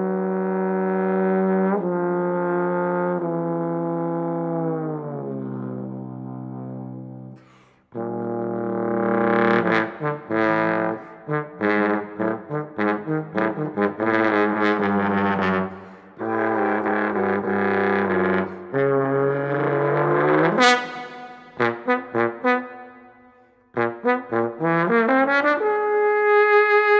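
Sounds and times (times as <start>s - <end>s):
solo trombone: 0.0s - 26.9s.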